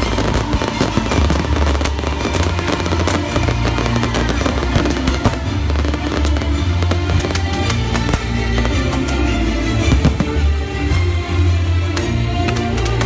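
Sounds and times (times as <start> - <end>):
firecrackers crackling: 0.0 - 13.0
music playing: 0.0 - 13.0.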